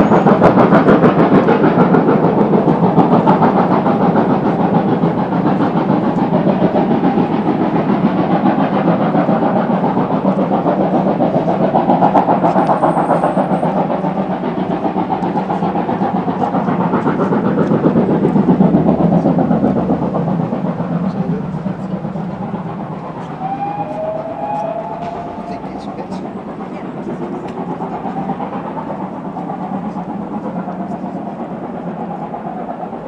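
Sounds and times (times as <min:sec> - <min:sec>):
steam locomotive exhaust beats: 0:00.0 - 0:33.0.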